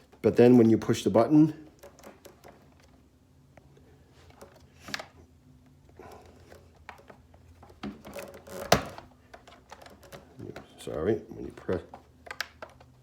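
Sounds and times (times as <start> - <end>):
small clicks and rustles: 1.6 - 13.0.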